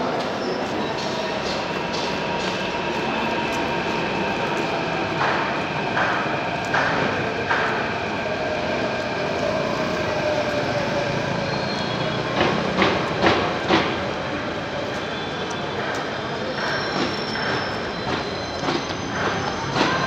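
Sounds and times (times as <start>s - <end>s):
metro train rumble: 0.0s - 20.0s.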